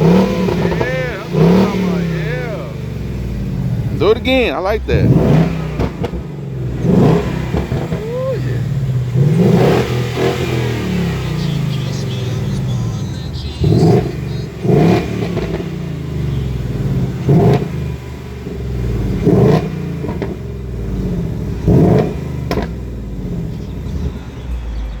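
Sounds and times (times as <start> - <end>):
sports car engine revving: 0.0 - 25.0.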